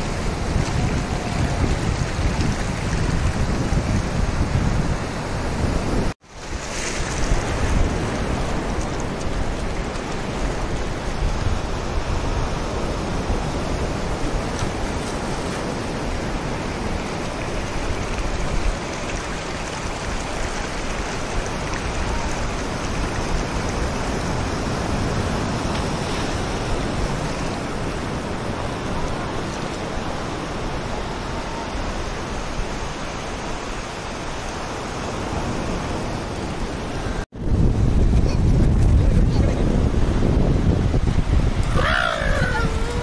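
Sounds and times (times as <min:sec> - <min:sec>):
small waves washing on sand: 0:00.0 - 0:43.0.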